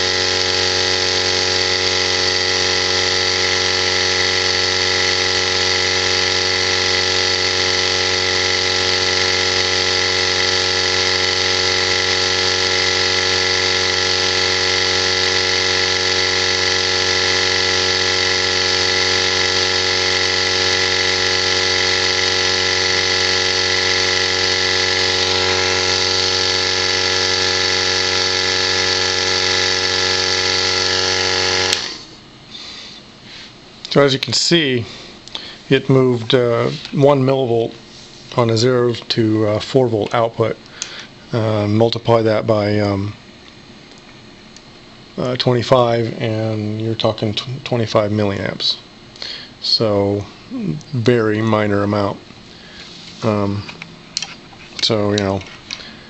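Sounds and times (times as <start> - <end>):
electric pumps humming: 0.0 - 56.0.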